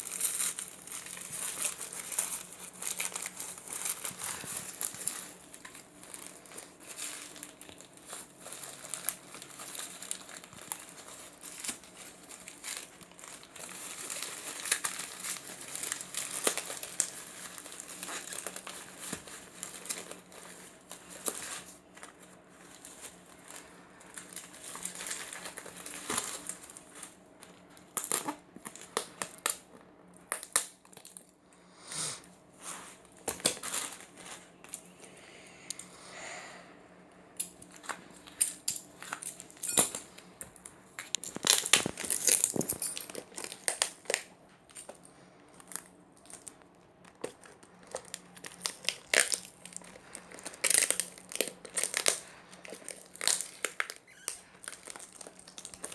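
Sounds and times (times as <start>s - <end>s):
packaging crinkling and rustling: 0.0s - 31.3s, 32.6s - 35.1s, 37.4s - 55.9s.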